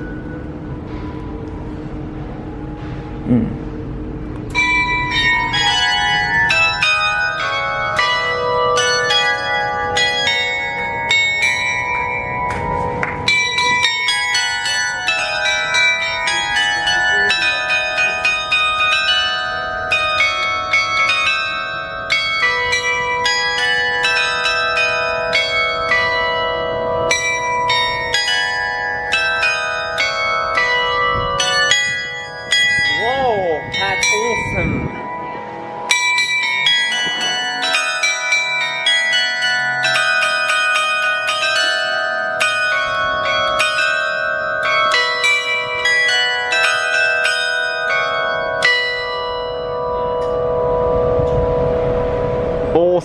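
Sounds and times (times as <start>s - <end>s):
tower bells playing a melody: 0.0s - 53.0s.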